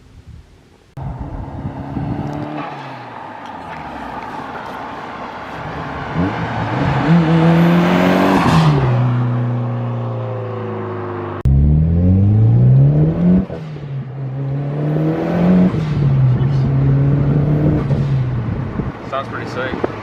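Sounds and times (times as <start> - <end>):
car engine accelerating: 1.0 - 19.3.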